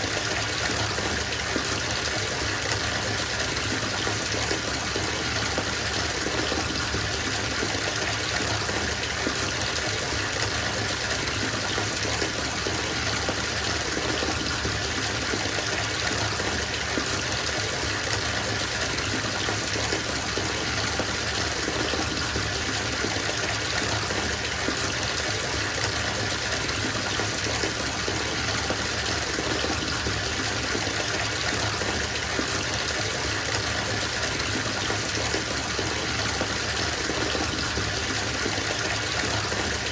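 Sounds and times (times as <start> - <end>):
water gushing into bathtub: 0.0 - 39.9.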